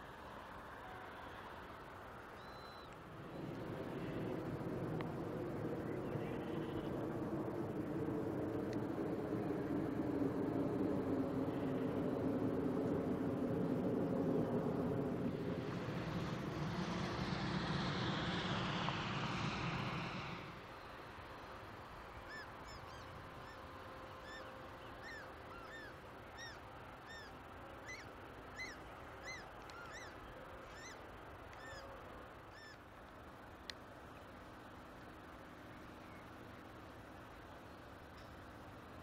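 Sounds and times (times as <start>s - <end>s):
engine with falling whine: 0.0s - 39.0s.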